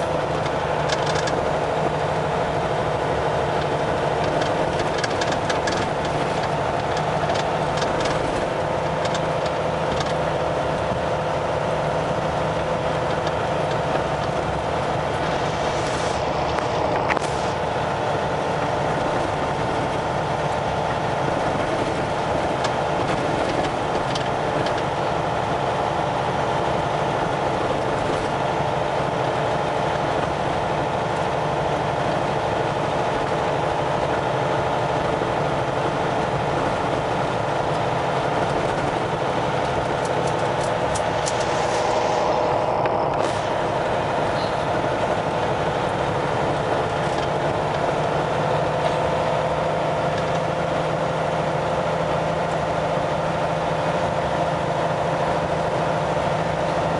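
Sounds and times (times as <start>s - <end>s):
truck diesel engine: 0.0s - 56.9s
tyres on gravel road: 0.0s - 56.9s.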